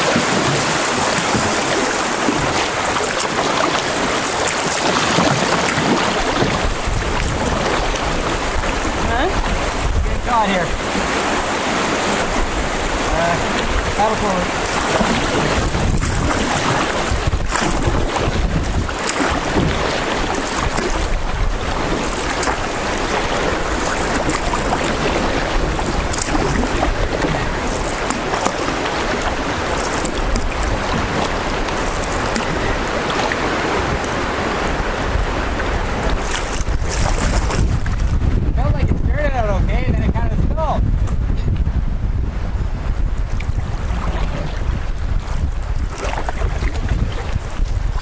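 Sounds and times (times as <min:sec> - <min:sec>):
river water rushing and splashing: 0:00.0 - 0:38.5, 0:42.4 - 0:48.0
wind buffeting microphone: 0:00.0 - 0:48.0.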